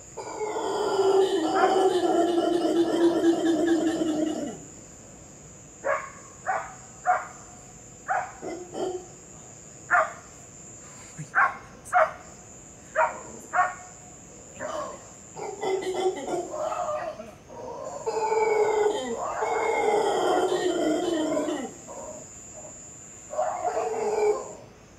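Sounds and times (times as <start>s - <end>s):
high insect trill: 0.0s - 24.9s.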